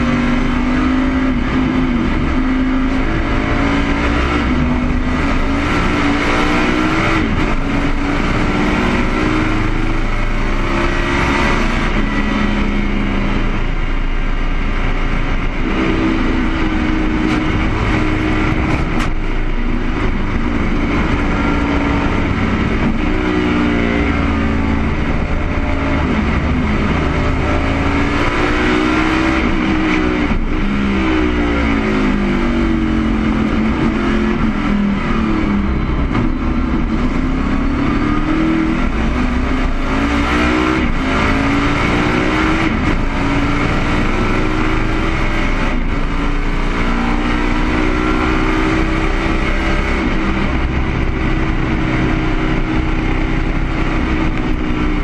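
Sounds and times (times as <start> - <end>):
race car engine revving: 0.0 - 55.0
wind and road noise: 0.0 - 55.0.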